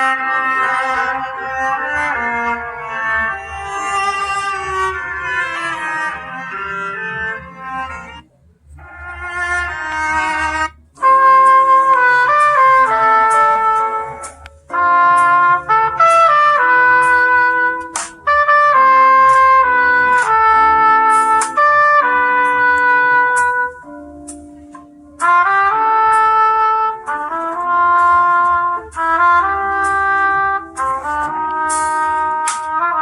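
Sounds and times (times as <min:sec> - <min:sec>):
trumpet-like phone ringtone: 0:00.0 - 0:08.2, 0:08.8 - 0:33.0.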